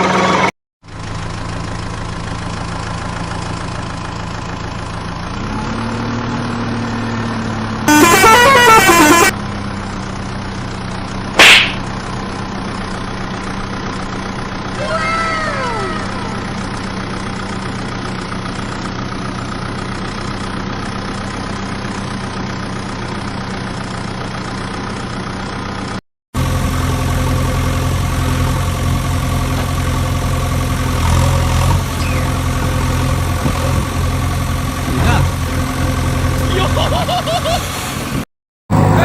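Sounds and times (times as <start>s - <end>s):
deeper louder engine running: 0.0s - 39.0s
vehicle engine idling: 0.0s - 39.0s.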